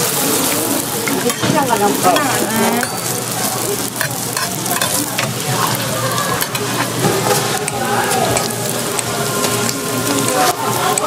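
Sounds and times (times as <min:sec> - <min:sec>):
metal utensils clicking and scraping: 0:00.0 - 0:11.0
pancakes sizzling in oil: 0:00.0 - 0:11.0.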